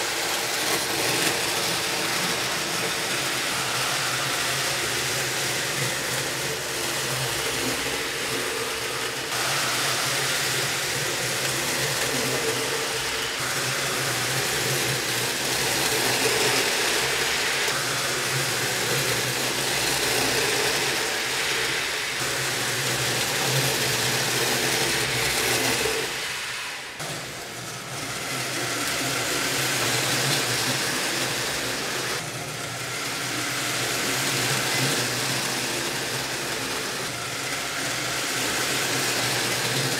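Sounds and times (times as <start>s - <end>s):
small electric motor hum: 0.0s - 39.9s
toy trucks running on track: 0.0s - 39.9s.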